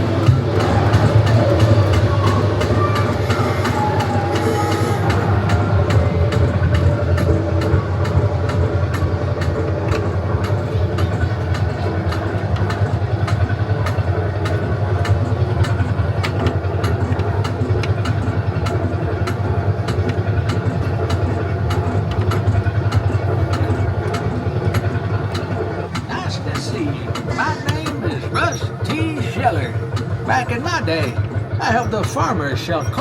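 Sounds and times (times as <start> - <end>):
ride vehicle engine rumble: 0.0 - 33.0
scattered clicks and knocks: 0.0 - 33.0.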